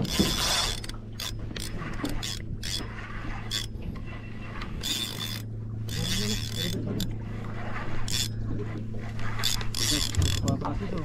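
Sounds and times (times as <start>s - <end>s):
fishing reel gears whirring: 0.0s - 11.0s.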